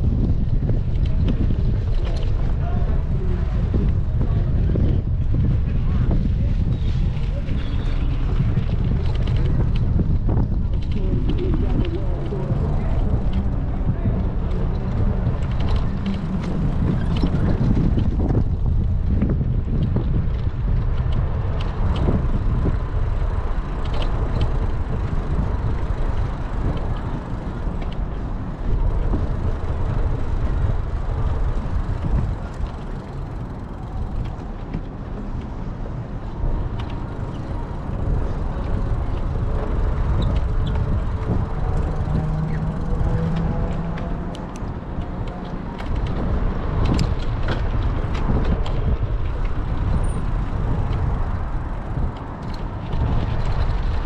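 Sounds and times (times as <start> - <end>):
bicycle clicks and rattles: 0.0 - 54.0
wind buffeting microphone: 0.0 - 54.0.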